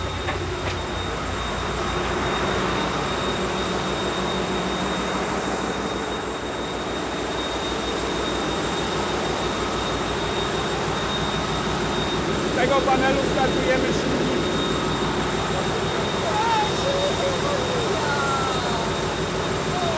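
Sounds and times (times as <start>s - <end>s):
constant high whine: 0.0s - 19.9s
engine room low hum: 0.0s - 19.9s.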